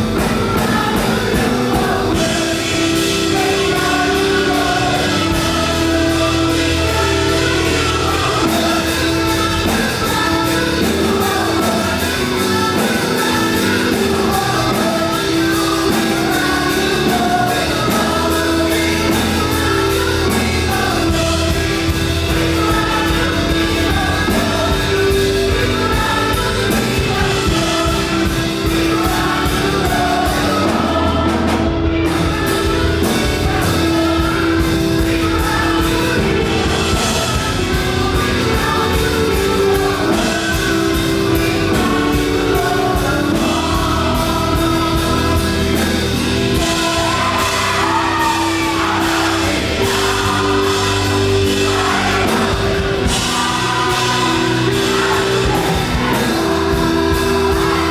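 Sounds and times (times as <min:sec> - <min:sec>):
band with driving percussion: 0:00.0 - 0:57.9
group of voices singing: 0:00.0 - 0:57.9.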